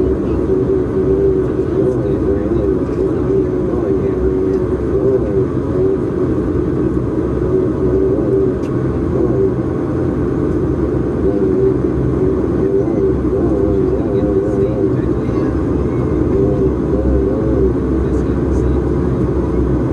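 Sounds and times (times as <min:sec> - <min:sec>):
turboprop engines idling: 0:00.0 - 0:19.9.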